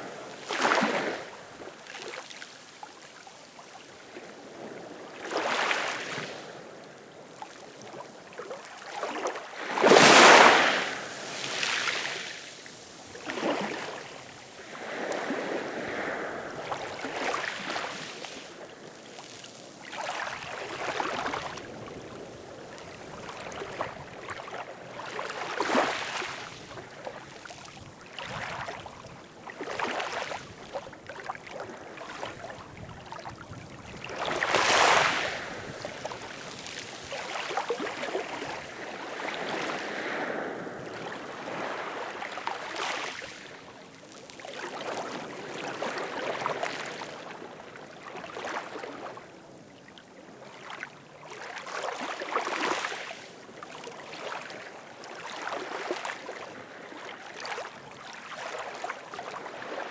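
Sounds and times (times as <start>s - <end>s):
small ocean waves splashing: 0.0s - 49.4s, 50.4s - 59.9s.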